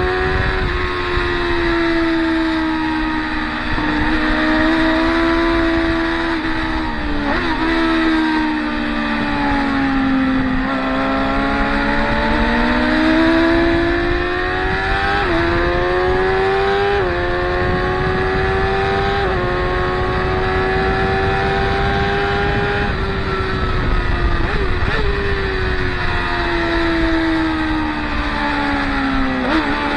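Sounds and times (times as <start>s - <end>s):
motorcycle engines accelerating: 0.0s - 29.9s.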